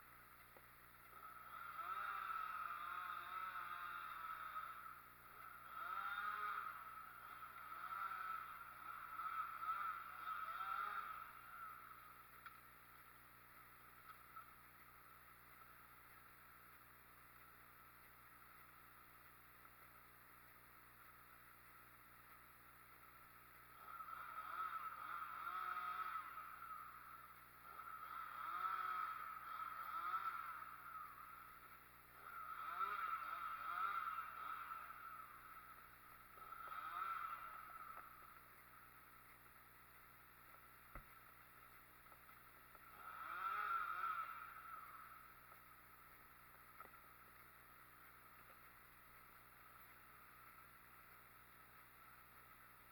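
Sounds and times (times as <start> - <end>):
chainsaw engine revving: 0.4 - 16.2, 23.5 - 51.1.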